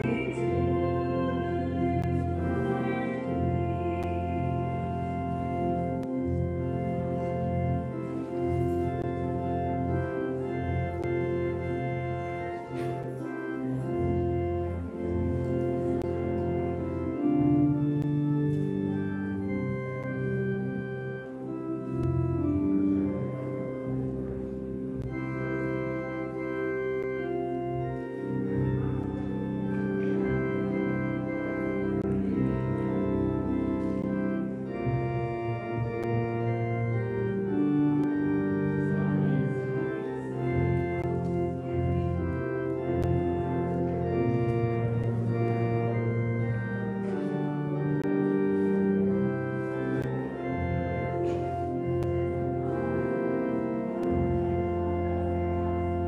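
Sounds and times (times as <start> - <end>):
organ playing slow chords: 0.0 - 56.0.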